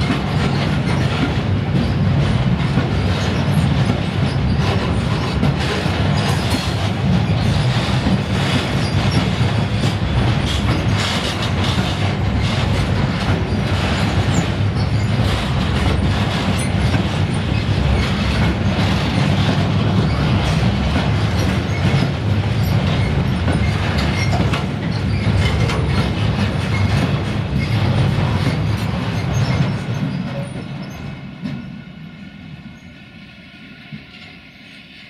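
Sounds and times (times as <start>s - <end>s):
wheels clacking over rail joints: 0.0s - 31.0s.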